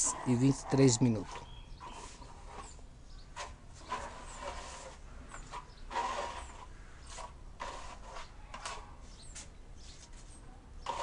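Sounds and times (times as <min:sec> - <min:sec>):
sandpaper scratching on wall: 0:00.0 - 0:11.0.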